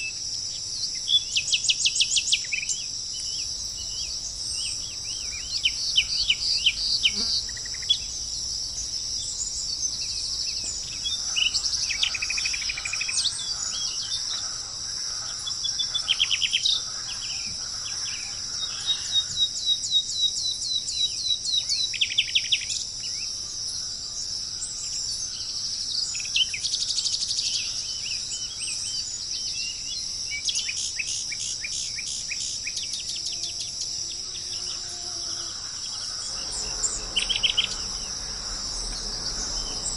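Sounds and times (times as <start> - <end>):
high-pitched insect chorus: 0.0 - 39.9
songbirds singing trills: 0.0 - 39.9.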